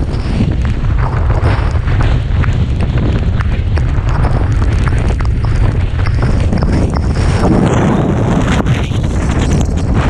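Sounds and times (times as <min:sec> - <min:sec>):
storm wind buffeting microphone: 0:00.0 - 0:10.0
raindrops ticking on camera: 0:00.1 - 0:09.9.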